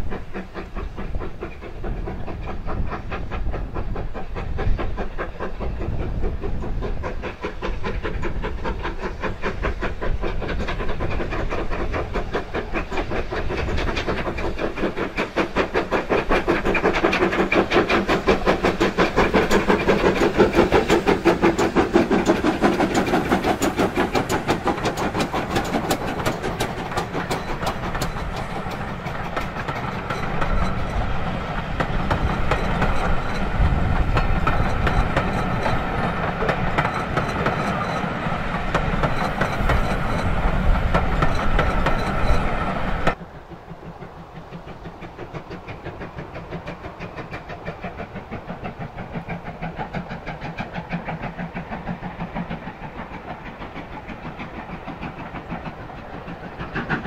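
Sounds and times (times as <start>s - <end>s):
steam locomotive exhaust beats: 0.0s - 57.0s
train coaches clickety-clack: 0.0s - 57.0s.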